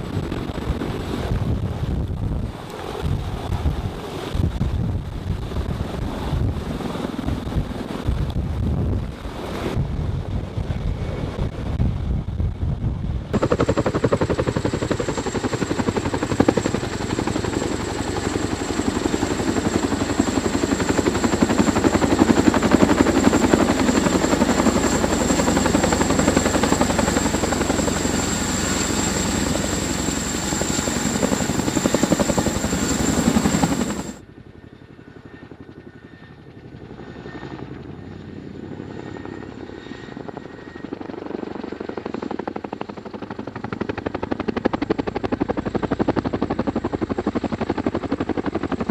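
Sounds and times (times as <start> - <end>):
helicopter rotor noise: 0.0 - 48.9
high helicopter whine: 0.0 - 48.9.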